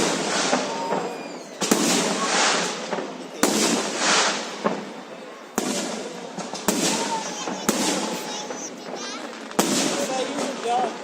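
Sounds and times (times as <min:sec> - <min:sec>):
firework shells bursting: 0:00.0 - 0:10.6
firework crackling tail: 0:00.0 - 0:11.0.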